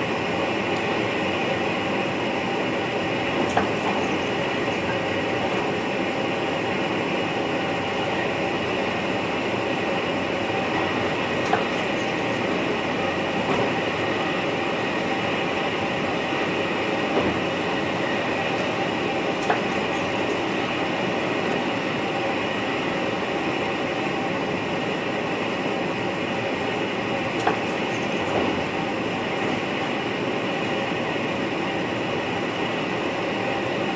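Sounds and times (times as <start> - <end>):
electric train running noise: 0.0 - 33.9.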